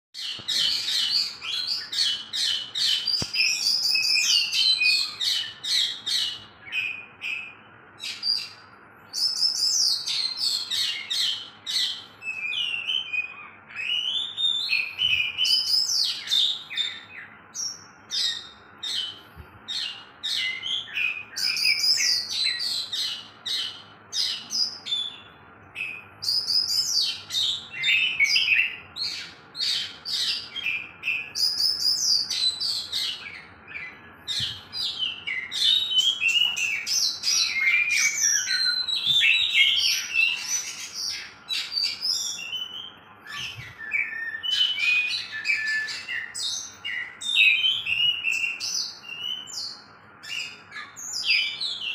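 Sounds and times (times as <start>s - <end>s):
birds singing whistles: 0.2s - 51.9s.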